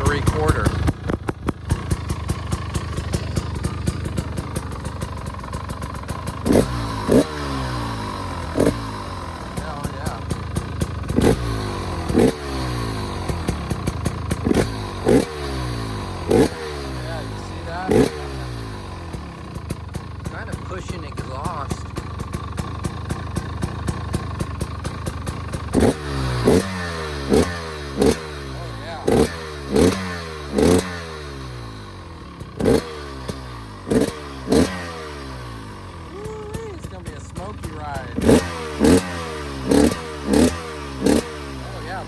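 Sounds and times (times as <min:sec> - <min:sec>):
two-stroke engine revving and idling: 0:00.0 - 0:42.0.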